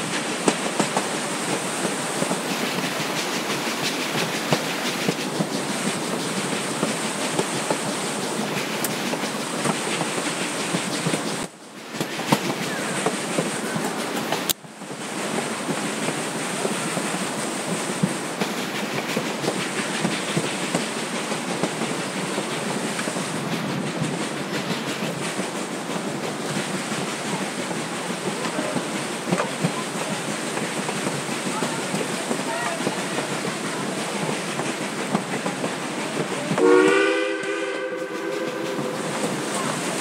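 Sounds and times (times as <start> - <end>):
train wheels clattering on rails: 0.0 - 40.0.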